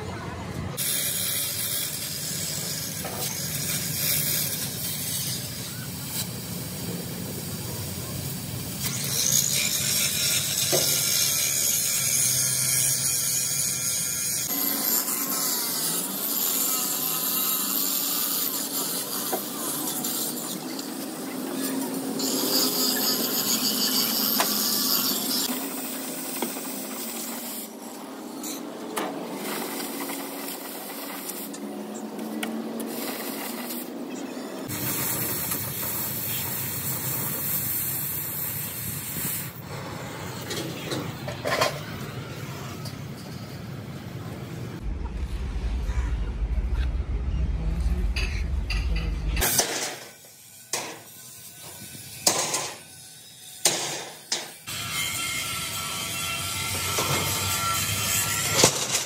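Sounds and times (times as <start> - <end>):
tools working sheet steel: 0.7 - 59.0.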